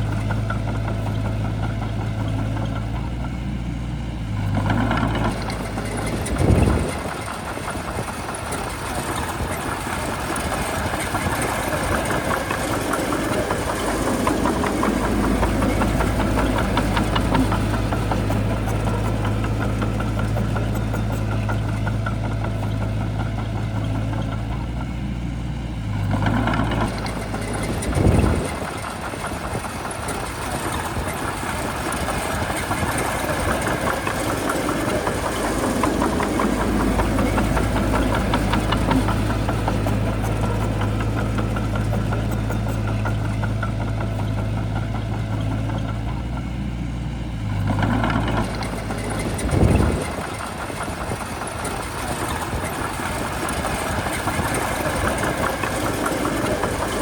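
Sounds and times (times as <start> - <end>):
diesel engine surging: 0.0 - 57.0.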